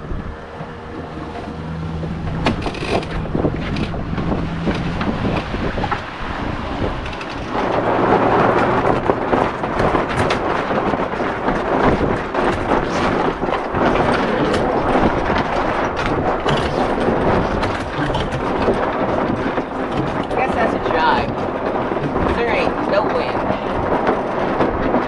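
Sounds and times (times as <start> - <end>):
water splashing against hull: 0.0 - 25.0
wind buffeting microphone: 0.0 - 25.0.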